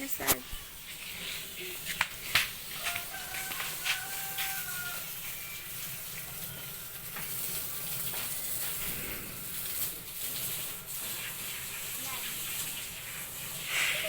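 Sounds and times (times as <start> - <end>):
running water hissing: 0.0 - 14.0.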